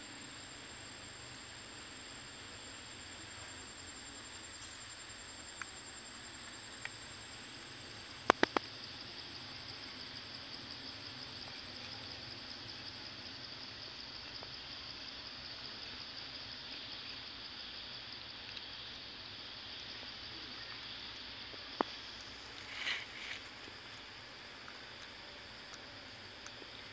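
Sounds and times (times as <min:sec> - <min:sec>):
insect chorus trilling: 0:00.0 - 0:26.9.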